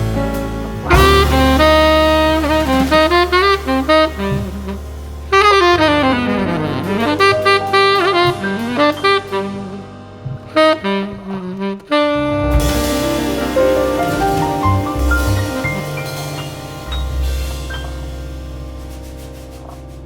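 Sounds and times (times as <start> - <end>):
bass line: 0.0 - 20.0
saxophone melody: 0.9 - 18.0.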